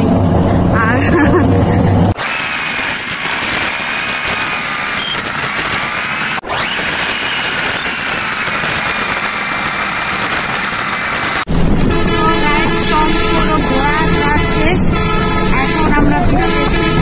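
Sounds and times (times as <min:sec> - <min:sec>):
road noise: 0:00.0 - 0:17.0
vehicle motor whining: 0:00.0 - 0:17.0.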